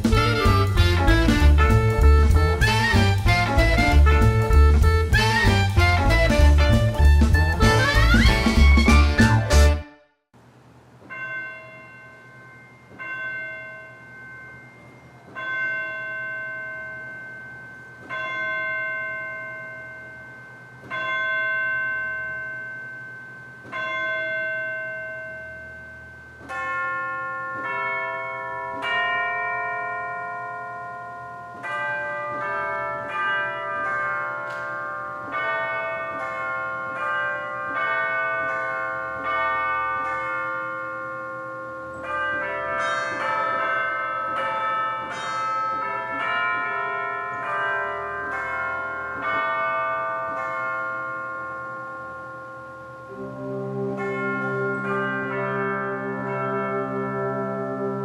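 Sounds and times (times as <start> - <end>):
several church bells ringing: 0.0 - 9.7, 11.1 - 58.0
single church bell tolling: 11.0 - 58.0.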